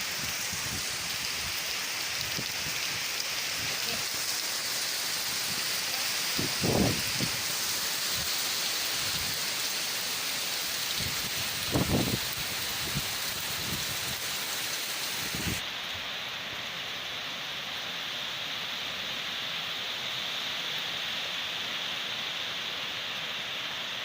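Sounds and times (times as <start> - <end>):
rain hiss: 0.0 - 24.0.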